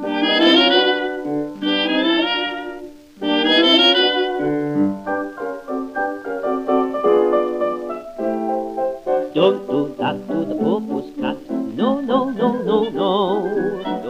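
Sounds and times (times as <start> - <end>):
band playing held notes: 0.0 - 14.0.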